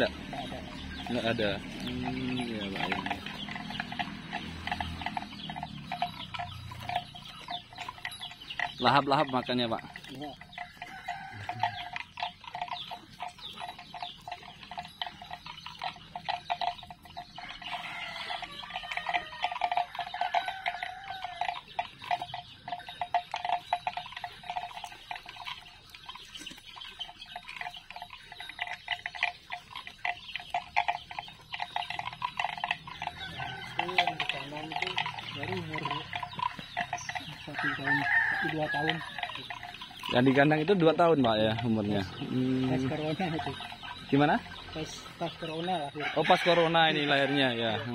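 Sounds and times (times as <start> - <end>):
cattle chewing grass: 0.0 - 47.9.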